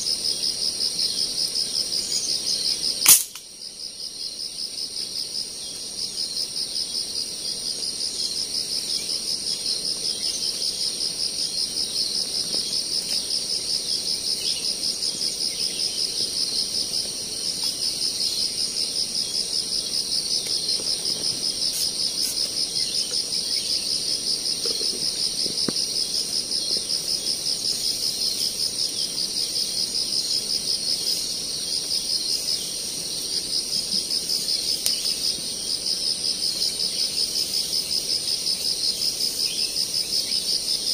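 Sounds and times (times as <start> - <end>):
high insect buzz: 0.0 - 40.9
insects trilling: 0.0 - 40.9.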